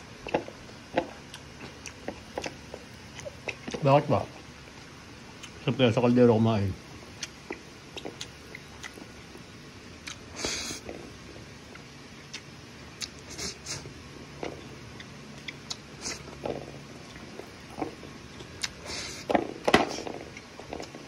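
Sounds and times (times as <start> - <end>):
person chewing: 0.0 - 5.6, 7.0 - 21.0.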